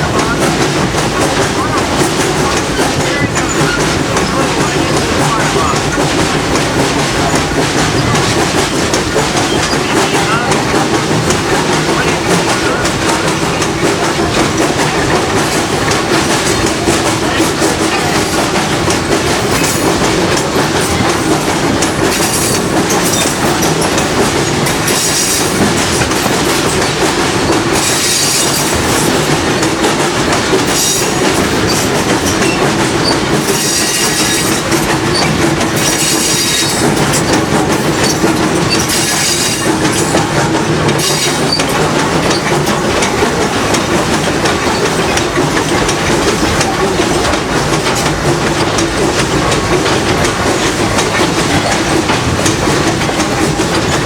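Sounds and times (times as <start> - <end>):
train rumble and rail clatter: 0.0 - 54.0.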